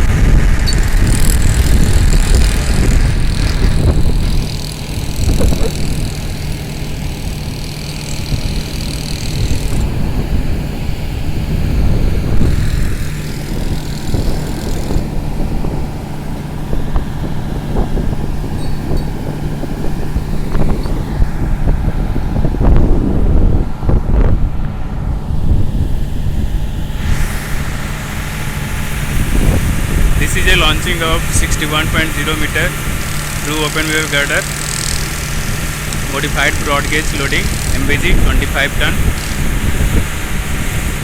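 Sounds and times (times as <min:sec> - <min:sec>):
crane engine running: 0:00.0 - 0:41.0
low hum: 0:00.0 - 0:41.0
wind buffeting microphone: 0:00.0 - 0:41.0.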